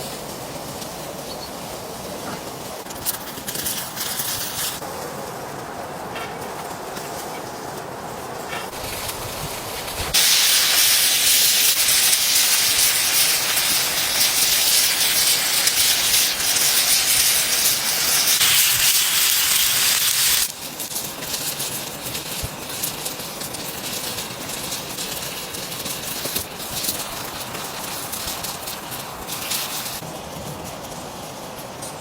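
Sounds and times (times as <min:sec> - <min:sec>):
loud steady hiss: 0:00.0 - 0:32.0.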